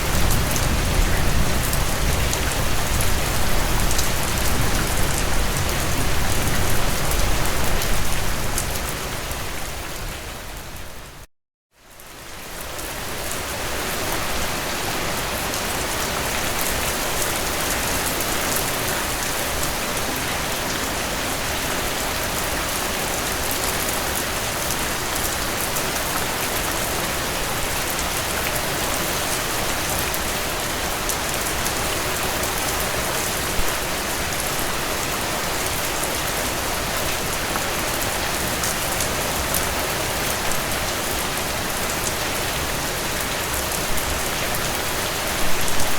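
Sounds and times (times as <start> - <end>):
heavy rain on a tin roof: 0.0 - 45.9.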